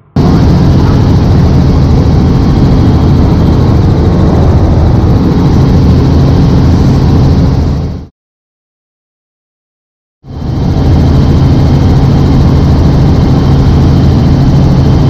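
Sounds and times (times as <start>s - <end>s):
helicopter engine and rotor: 0.0s - 8.1s, 10.2s - 15.0s.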